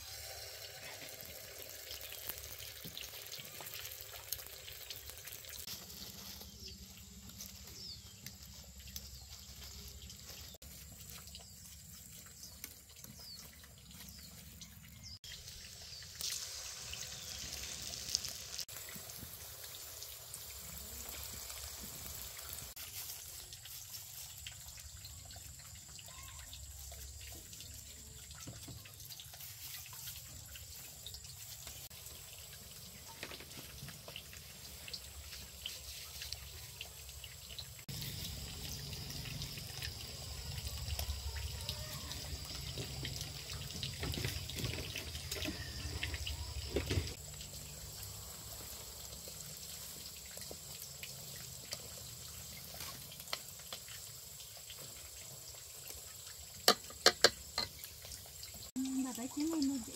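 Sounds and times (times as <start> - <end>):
water trickling from a tap: 0.0 - 59.9.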